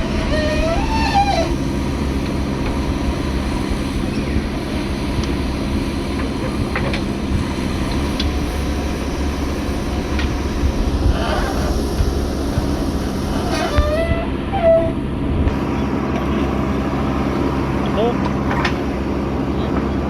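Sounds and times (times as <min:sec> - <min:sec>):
backhoe diesel engine drone: 0:00.0 - 0:20.0.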